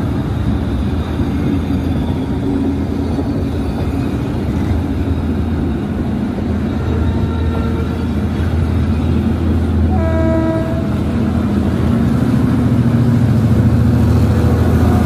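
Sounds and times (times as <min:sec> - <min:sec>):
train rolling past rumbling: 0:00.0 - 0:15.0.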